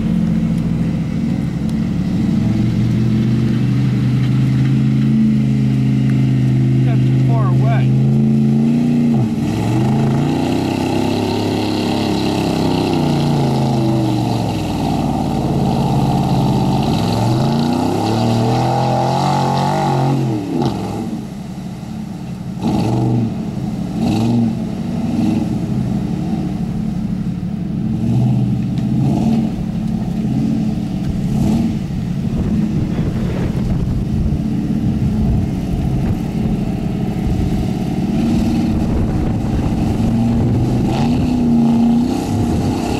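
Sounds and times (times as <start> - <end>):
large vehicle engine revving: 0.0 - 42.9.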